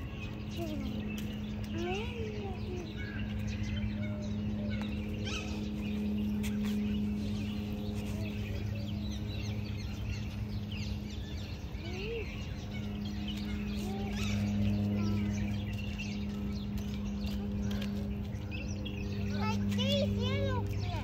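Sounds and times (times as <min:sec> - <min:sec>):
birds chirping and calling: 0:00.0 - 0:21.0
low hum and rumble: 0:00.0 - 0:21.0.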